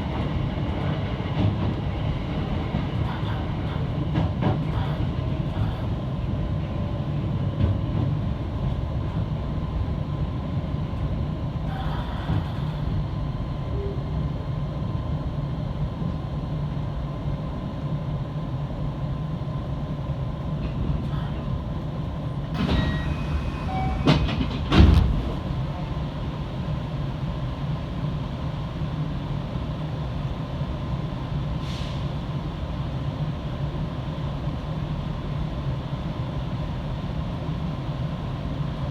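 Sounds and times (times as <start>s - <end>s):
electric train rumbling: 0.0s - 38.9s.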